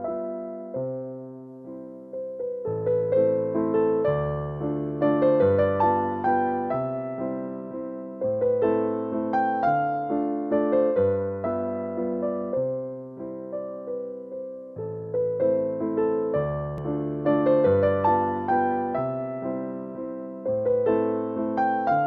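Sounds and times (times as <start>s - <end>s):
soft piano melody: 0.0s - 22.0s.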